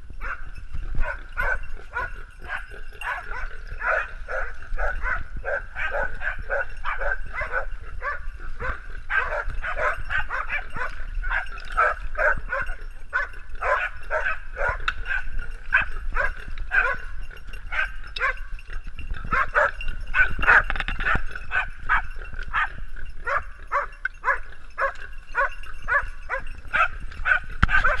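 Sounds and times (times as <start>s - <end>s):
dogs barking: 0.0s - 28.0s.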